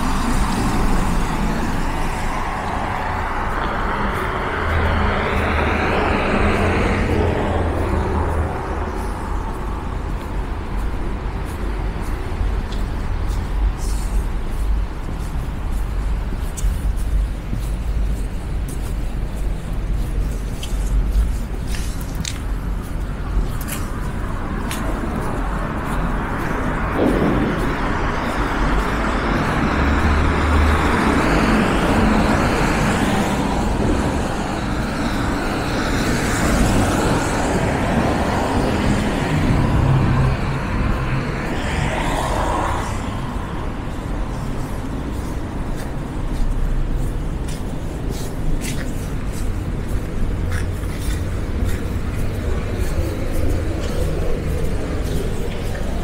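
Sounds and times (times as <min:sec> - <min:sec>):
low engine rumble: 0:00.0 - 0:56.0
passing vehicles rushing: 0:00.0 - 0:56.0.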